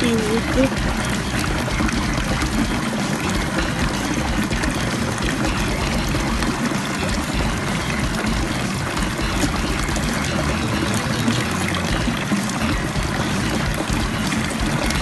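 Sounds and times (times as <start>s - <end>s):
water running: 0.0s - 15.0s.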